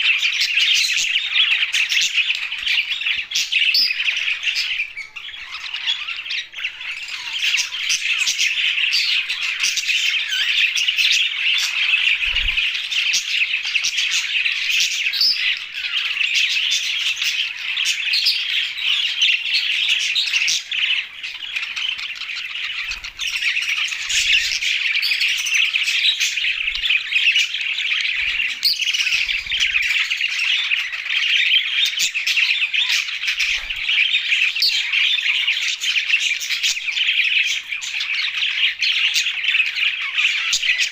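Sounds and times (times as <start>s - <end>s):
bird squawks: 0.0s - 40.9s
budgies chattering and chirping: 0.0s - 40.9s.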